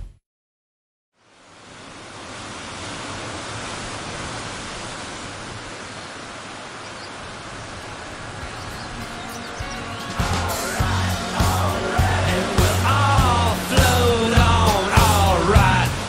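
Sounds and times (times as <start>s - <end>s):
sea waves rushing: 1.3s - 16.0s.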